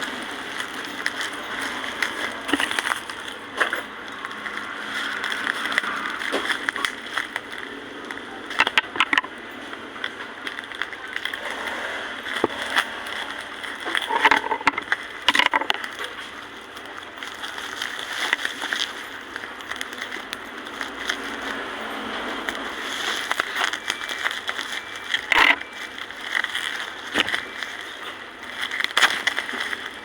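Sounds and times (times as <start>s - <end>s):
plastic packaging crinkling: 0.0s - 30.0s.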